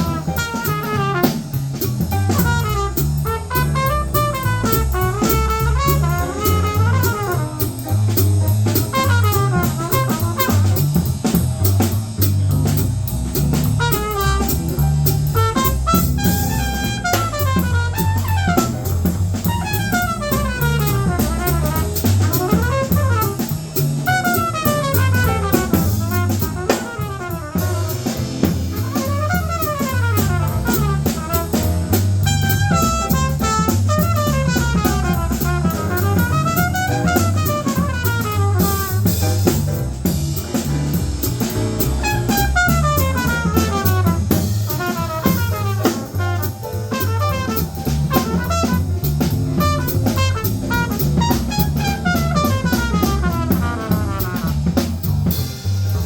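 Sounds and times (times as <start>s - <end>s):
alto saxophone fast runs: 0.0s - 1.5s, 2.3s - 7.8s, 8.8s - 10.8s, 13.7s - 39.2s, 42.0s - 55.0s
drum kit with busy cymbals: 0.0s - 56.0s
steady low bass line: 0.0s - 56.0s.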